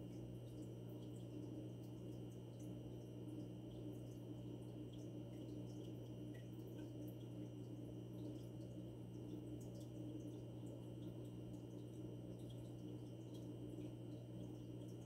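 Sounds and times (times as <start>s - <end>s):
aquarium pump hum: 0.0s - 15.0s
water ticks and drips: 0.0s - 15.0s.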